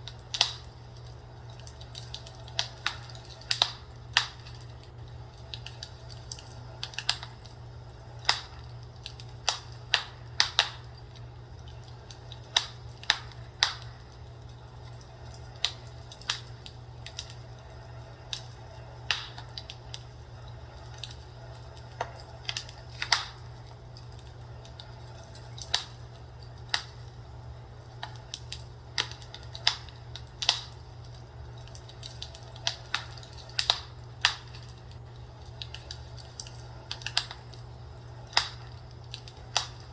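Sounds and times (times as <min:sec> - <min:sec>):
fire crackling and popping: 0:00.0 - 0:39.9
steady low hum: 0:00.0 - 0:39.9.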